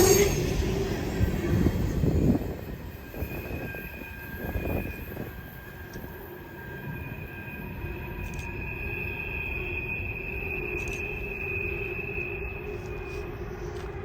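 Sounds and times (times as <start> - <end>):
train low rumble: 0.0 - 14.0
train wheels squealing on rail: 0.0 - 14.0.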